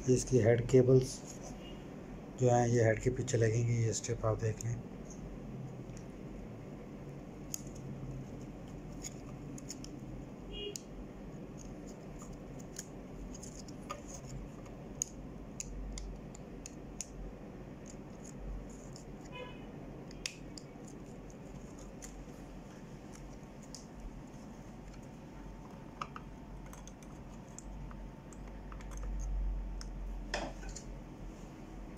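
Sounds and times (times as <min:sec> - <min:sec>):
low steady hum: 0:00.0 - 0:31.9.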